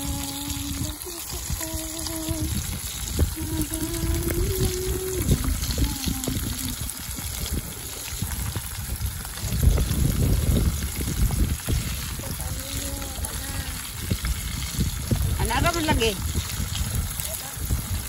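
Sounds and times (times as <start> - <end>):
fish sizzling in oil: 0.0 - 18.0
low rumbling: 0.0 - 18.0.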